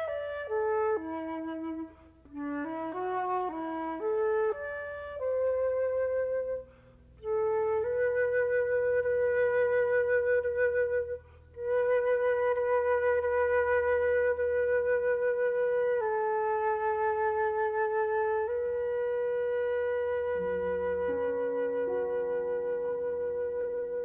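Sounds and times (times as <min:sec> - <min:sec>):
flute playing long notes: 0:00.0 - 0:24.0.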